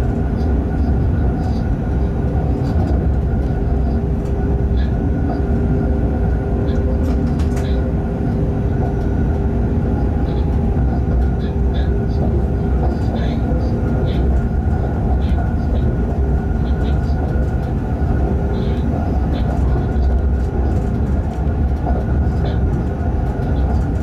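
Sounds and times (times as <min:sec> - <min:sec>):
train rumbling with hum: 0:00.0 - 0:24.0.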